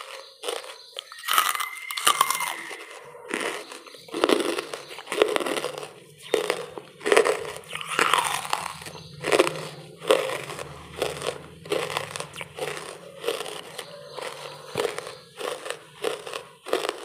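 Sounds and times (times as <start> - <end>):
charcoal crunching when chewed: 0.0 - 17.0.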